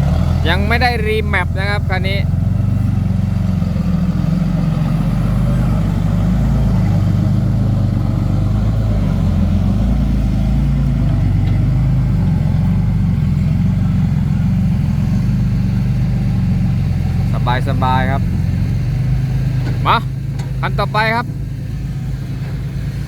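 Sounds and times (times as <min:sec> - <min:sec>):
diesel truck engine droning: 0:00.0 - 0:23.0.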